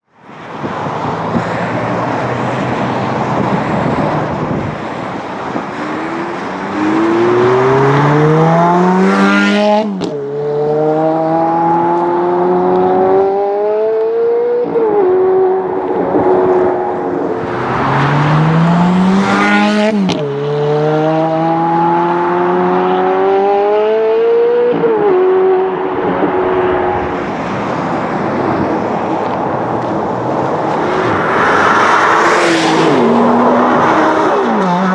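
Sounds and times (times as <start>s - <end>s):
sports car engine accelerating: 3.4s - 34.9s.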